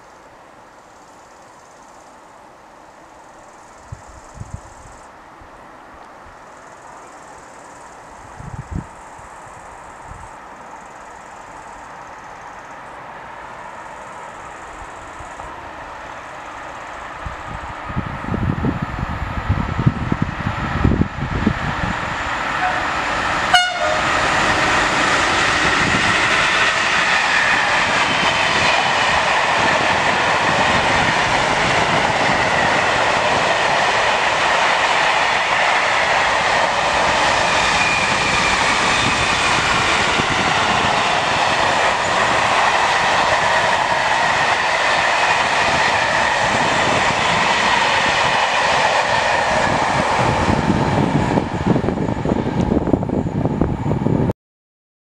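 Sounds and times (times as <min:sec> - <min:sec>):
freight train wheels rolling on rails: 0:00.0 - 0:54.3.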